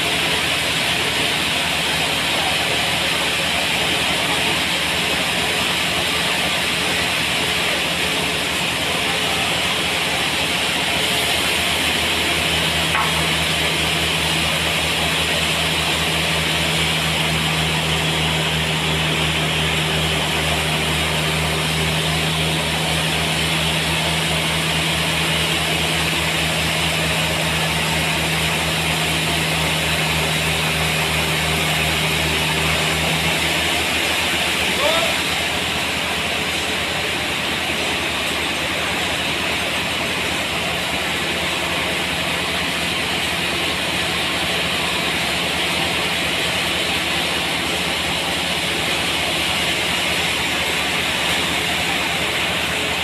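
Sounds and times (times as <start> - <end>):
sawmill machine hum: 0.0 - 53.0.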